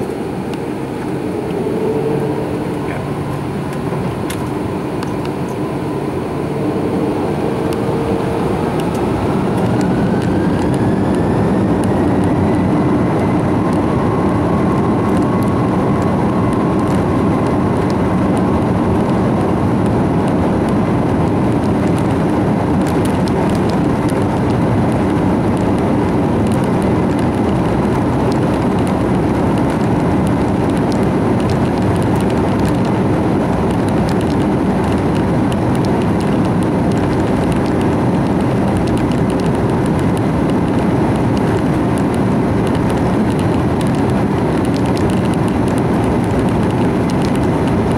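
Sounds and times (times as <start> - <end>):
jet engines at takeoff thrust: 0.0 - 47.9
runway rumble: 0.0 - 47.9.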